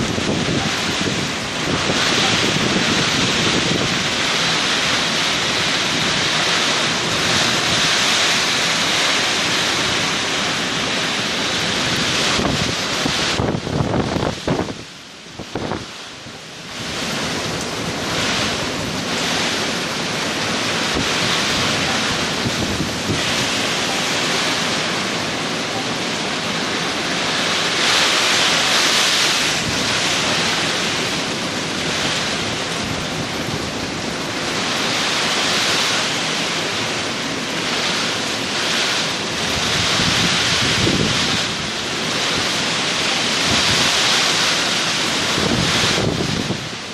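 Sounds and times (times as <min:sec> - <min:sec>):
strong wind buffeting microphone: 0:00.0 - 0:46.9.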